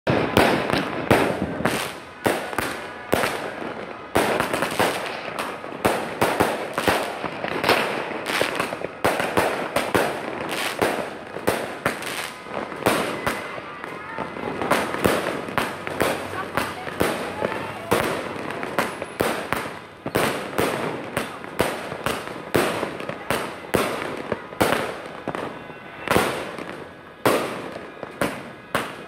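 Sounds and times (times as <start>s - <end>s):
fireworks bangs and bursts: 0.1s - 29.0s.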